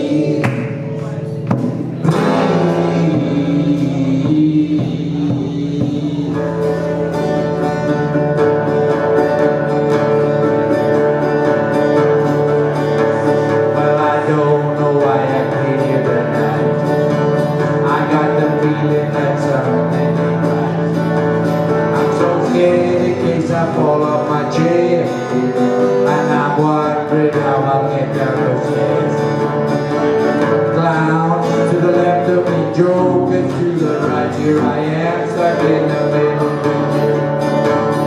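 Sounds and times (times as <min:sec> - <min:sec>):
acoustic guitar: 0:00.0 - 0:38.0.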